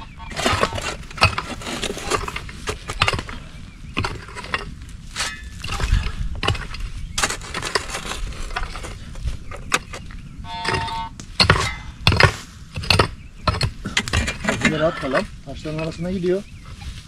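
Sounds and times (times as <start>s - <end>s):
metal tools digging earth: 0.0s - 16.3s.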